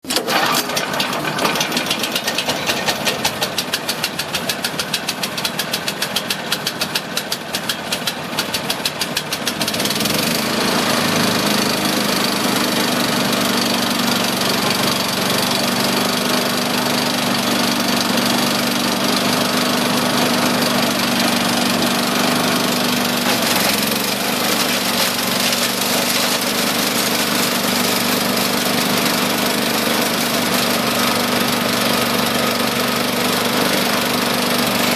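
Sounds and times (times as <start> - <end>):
single-cylinder engine running: 0.0 - 34.9.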